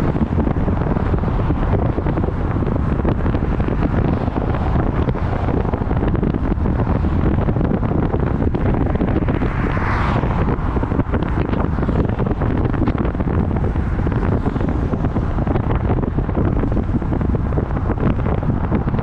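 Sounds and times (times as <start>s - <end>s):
road noise rumble: 0.0s - 19.0s
wind buffeting microphone: 0.0s - 19.0s.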